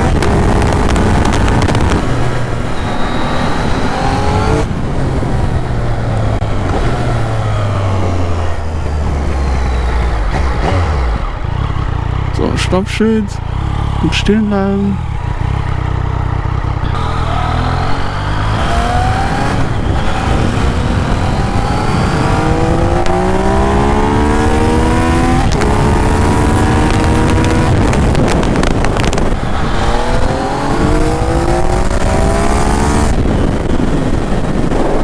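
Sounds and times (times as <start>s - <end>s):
wind rushing over microphone: 0.0s - 12.5s, 15.0s - 35.0s
motorcycle engine accelerating: 0.0s - 35.0s.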